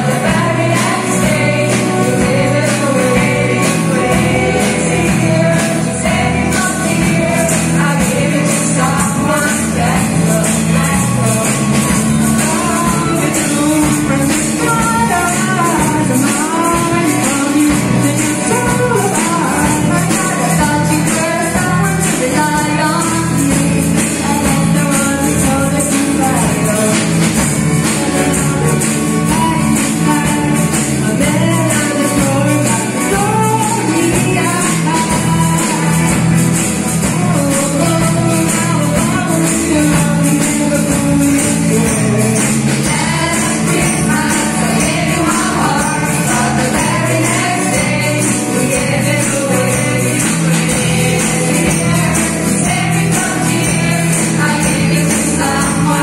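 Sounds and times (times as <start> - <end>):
jingling percussion: 0.0 - 56.0
live band playing: 0.0 - 56.0
women singing: 0.0 - 56.0.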